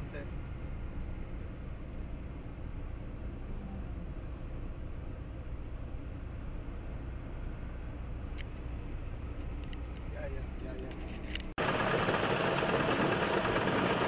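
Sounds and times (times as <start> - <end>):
road and engine drone: 0.0 - 14.0.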